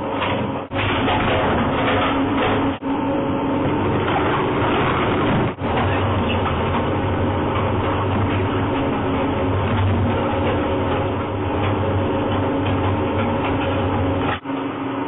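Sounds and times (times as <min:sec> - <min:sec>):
industrial shredder running: 0:00.0 - 0:15.0.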